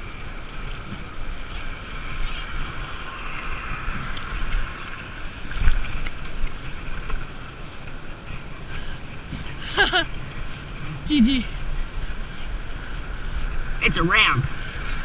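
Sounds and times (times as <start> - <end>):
road noise hiss: 0.0 - 15.0
wind rumbling on microphone: 0.0 - 15.0.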